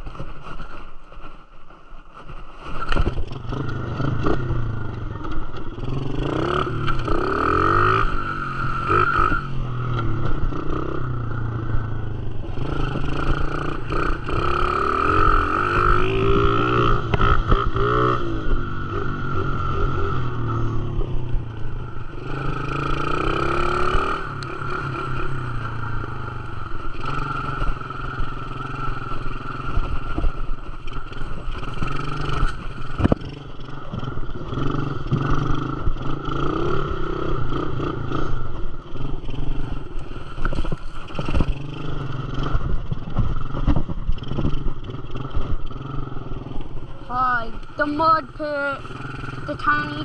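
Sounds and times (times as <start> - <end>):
dirt bike engine: 0.0 - 50.0.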